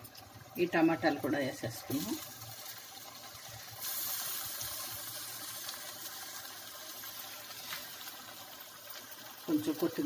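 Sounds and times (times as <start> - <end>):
vegetables hissing in a hot pot: 0.0 - 10.0.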